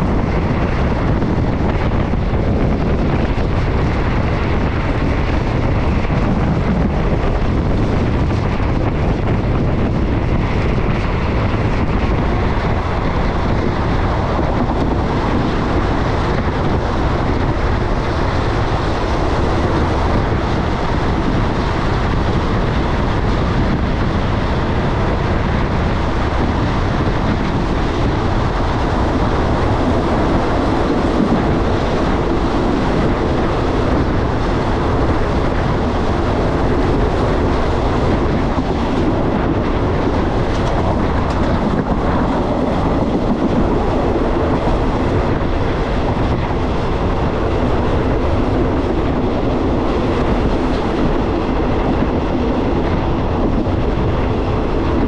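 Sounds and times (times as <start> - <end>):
passenger train rumbling: 0.0 - 55.0
wind buffeting microphone: 0.0 - 55.0.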